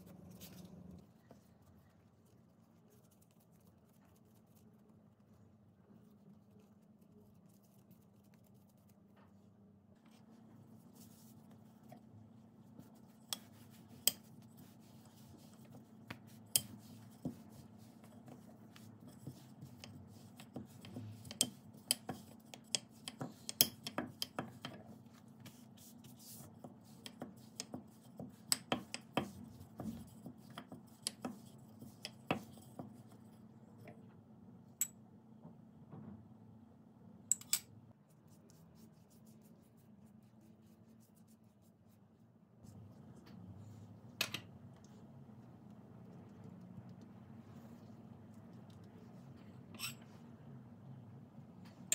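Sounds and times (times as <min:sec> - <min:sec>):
faint low hum: 0:00.0 - 0:51.9.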